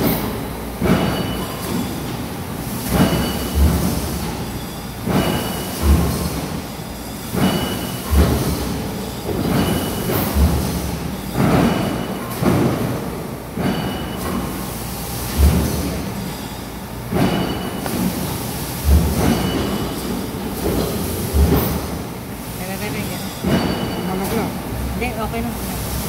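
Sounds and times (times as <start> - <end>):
machinery clattering in cycles: 0.0 - 26.0.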